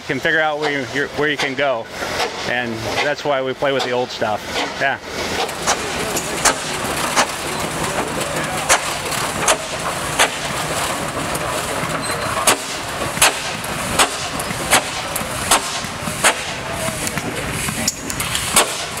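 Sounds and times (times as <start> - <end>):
steady steam hiss: 0.0 - 19.0
steam engine exhaust chuffs: 0.0 - 19.0.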